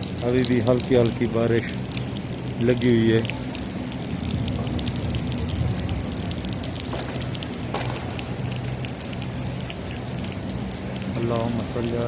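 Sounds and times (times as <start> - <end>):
light rain on hard surfaces: 0.0 - 12.0
low steady hum: 0.0 - 12.0.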